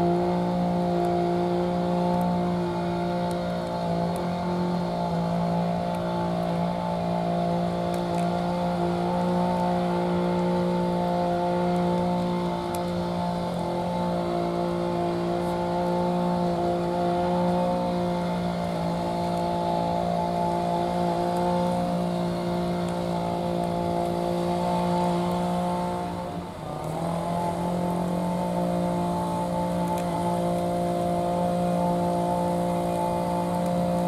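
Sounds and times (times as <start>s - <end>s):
machine drone: 0.0s - 34.0s.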